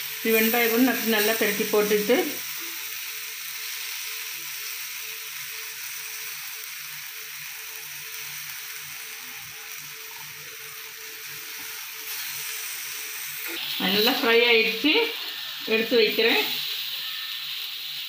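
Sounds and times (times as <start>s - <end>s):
cutlets sizzling in oil: 0.0s - 18.0s.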